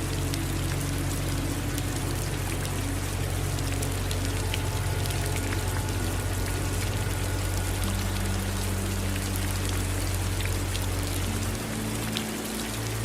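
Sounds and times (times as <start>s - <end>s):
low hum: 0.0s - 13.0s
rain falling: 0.0s - 13.0s
running water: 0.0s - 13.0s.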